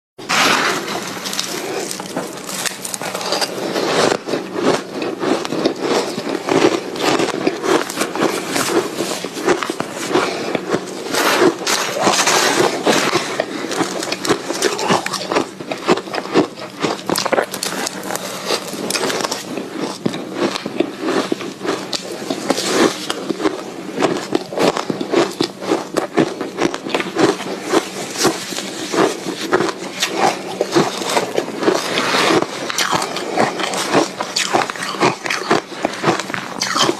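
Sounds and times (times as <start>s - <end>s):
ice being chewed crunching: 0.3s - 36.9s.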